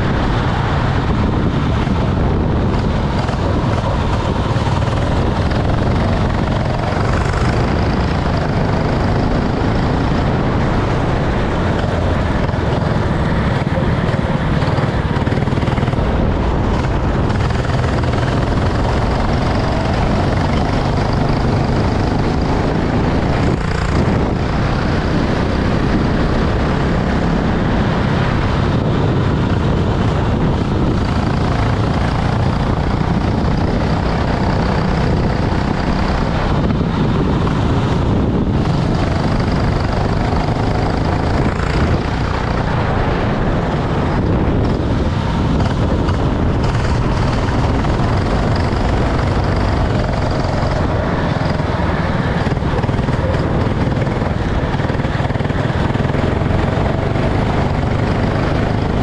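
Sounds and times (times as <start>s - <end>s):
continuous rushing noise: 0.0s - 59.0s
go-kart engine running: 0.0s - 59.0s.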